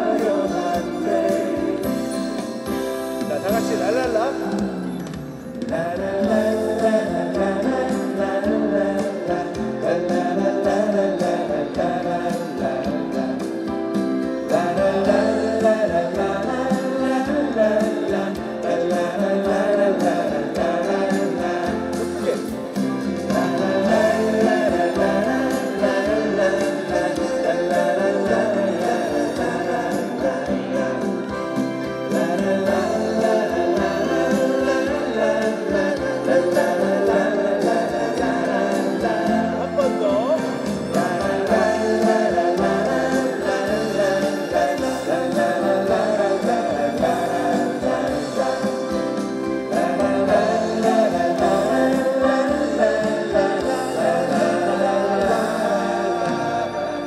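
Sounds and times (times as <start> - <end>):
crowd singing along: 0.0 - 57.0
live band playing: 0.0 - 57.0.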